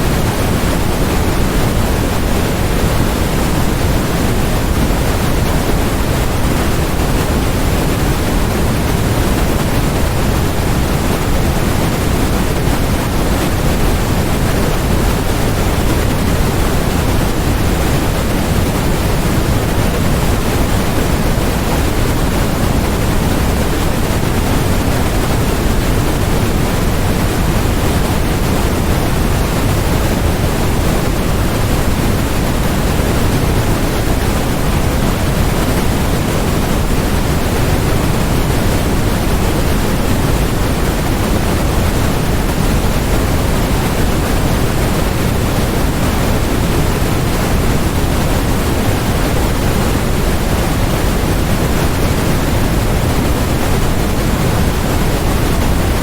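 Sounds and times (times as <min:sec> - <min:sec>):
steady electronic noise hiss: 0:00.0 - 0:56.0.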